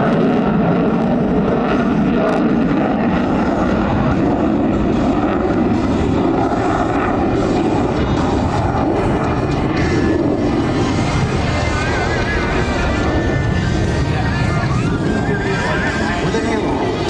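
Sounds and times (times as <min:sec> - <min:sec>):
jet engine noise overhead: 0:00.0 - 0:17.0.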